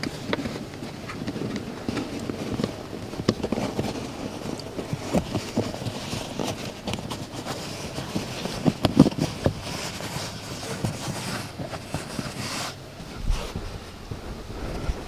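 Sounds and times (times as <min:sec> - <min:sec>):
hand rustling against carpet: 0:00.0 - 0:15.0.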